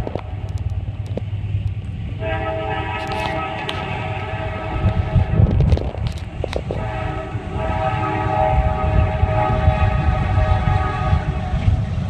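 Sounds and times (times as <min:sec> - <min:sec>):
train rumble: 0:00.0 - 0:12.0
locomotive air horn: 0:02.2 - 0:11.9.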